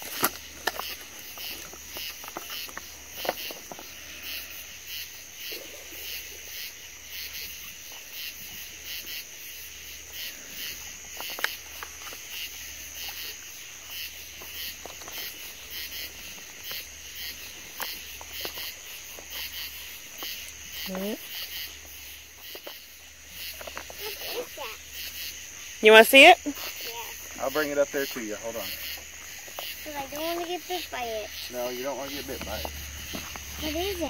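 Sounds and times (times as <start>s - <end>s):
crickets and insects chorus: 0.0s - 34.0s.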